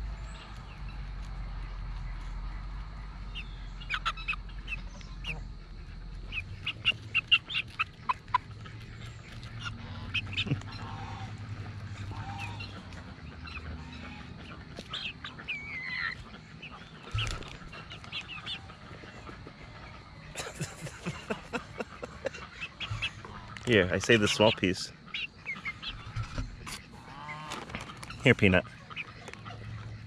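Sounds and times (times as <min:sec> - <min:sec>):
chicks peeping: 0:00.2 - 0:30.0.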